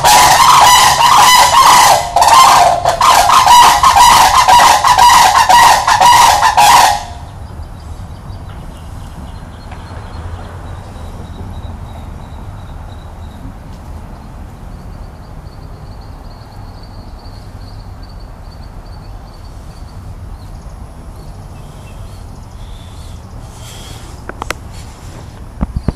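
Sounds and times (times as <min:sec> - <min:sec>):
low outdoor rumble: 0:00.0 - 0:25.9.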